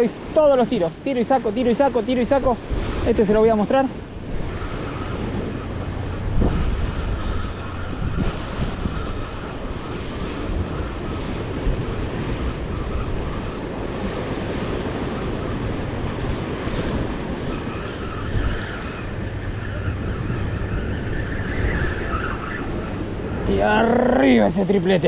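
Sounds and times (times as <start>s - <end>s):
surf washing against rocks: 0.0s - 25.0s
wind buffeting microphone: 0.0s - 25.0s.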